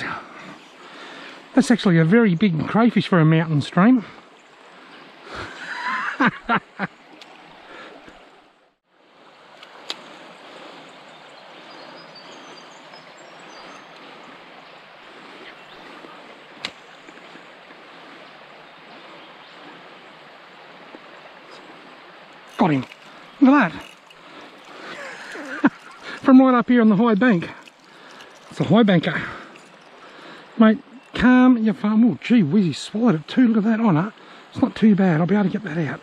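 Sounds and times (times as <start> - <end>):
creek babbling over rocks: 6.9 - 36.0.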